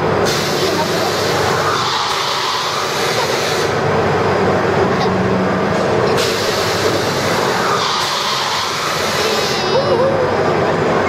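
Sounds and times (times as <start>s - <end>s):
swing ride rushing rumble: 0.0s - 11.0s.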